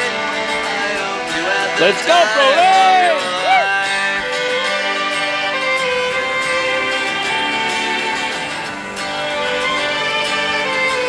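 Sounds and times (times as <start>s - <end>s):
fiddle melody over accompaniment: 0.0s - 11.0s.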